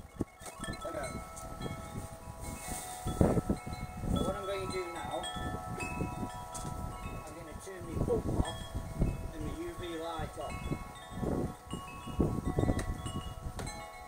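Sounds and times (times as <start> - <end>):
metal chimes ringing: 0.0 - 14.0.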